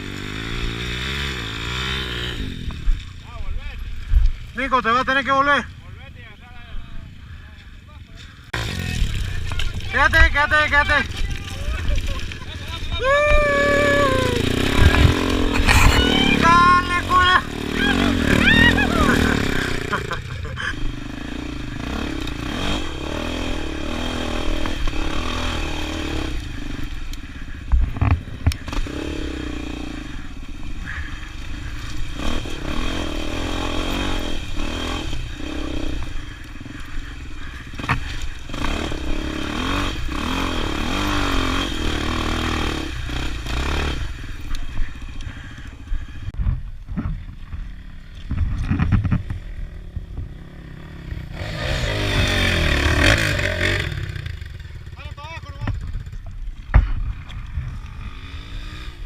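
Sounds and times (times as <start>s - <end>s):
motorcycle engine revving: 0.0s - 7.4s, 8.0s - 59.0s.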